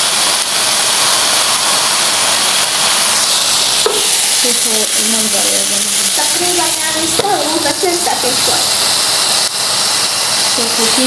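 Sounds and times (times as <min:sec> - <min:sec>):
sandwiches sizzling on a grill: 0:00.0 - 0:11.0.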